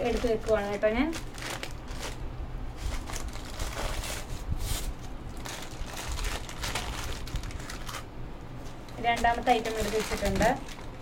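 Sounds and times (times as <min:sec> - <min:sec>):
bag and paper packets rustling: 0:00.0 - 0:11.0.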